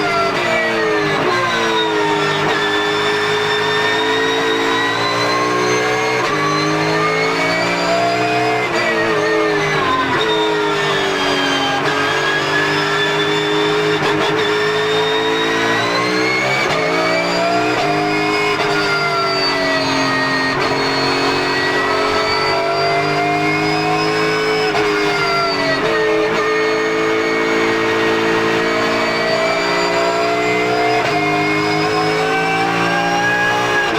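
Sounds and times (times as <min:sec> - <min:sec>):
car engine running hard: 0:00.0 - 0:33.9.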